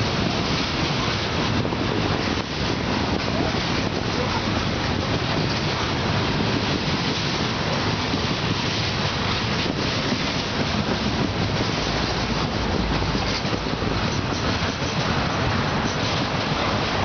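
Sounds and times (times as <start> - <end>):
freight train wheels on rail: 0.0 - 17.0
wind noise on microphone: 0.0 - 17.0.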